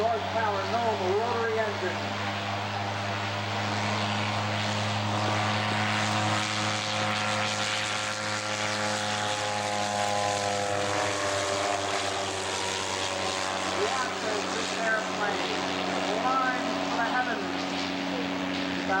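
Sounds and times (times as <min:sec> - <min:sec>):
biplane rotary engine droning: 0:00.0 - 0:19.0.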